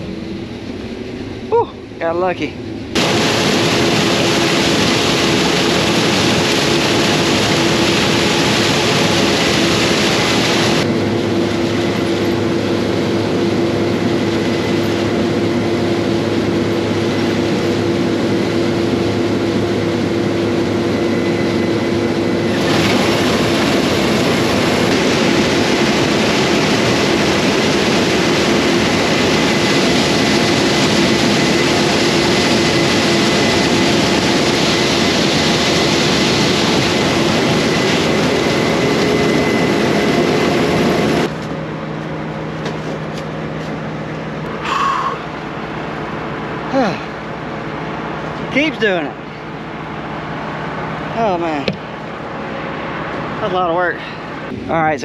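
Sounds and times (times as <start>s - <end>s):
combine harvester droning: 0.0s - 55.0s
low hum: 0.0s - 55.0s.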